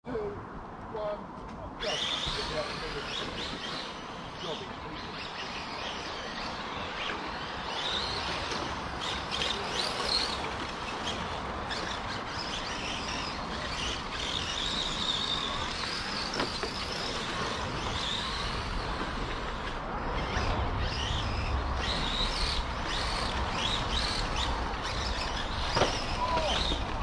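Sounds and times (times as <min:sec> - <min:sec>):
outdoor background noise: 0:00.0 - 0:27.0
birds chirping: 0:01.8 - 0:27.0.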